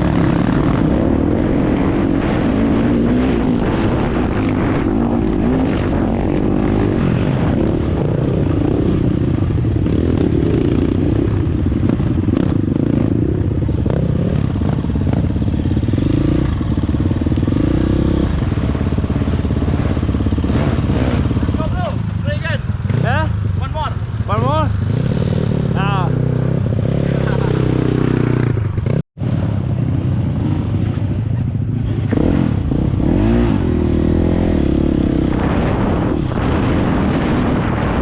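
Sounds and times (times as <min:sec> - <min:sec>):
dirt bike engine running: 0:00.0 - 0:38.0.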